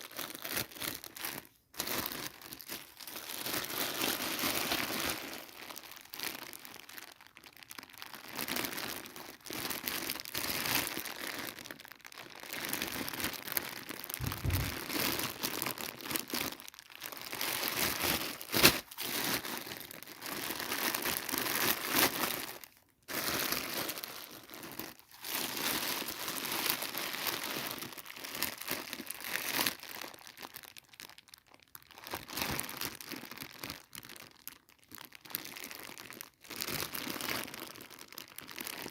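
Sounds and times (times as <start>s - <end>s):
packaging crinkling and rustling: 0.0s - 38.9s.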